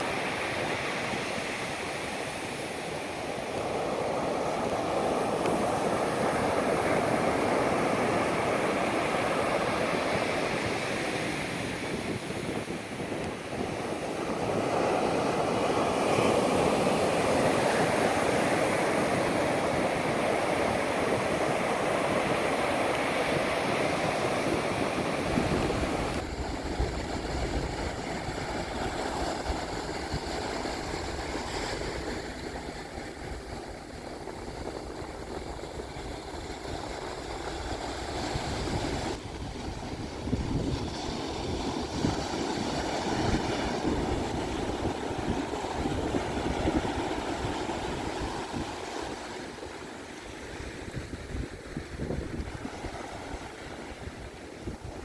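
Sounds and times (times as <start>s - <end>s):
surf washing onto beach: 0.0s - 55.0s.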